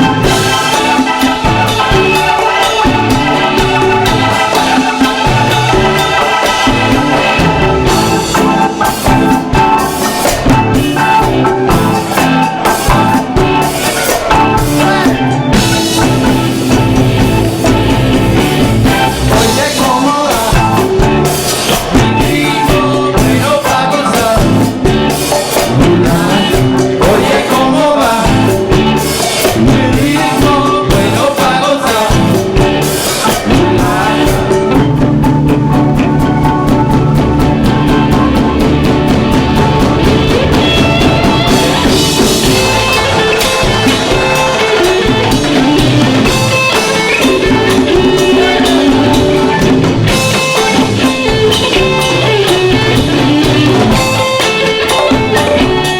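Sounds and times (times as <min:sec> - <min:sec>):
drum kit: 0:00.0 - 0:55.9
live rock band: 0:00.0 - 0:55.9
organ: 0:00.0 - 0:55.9.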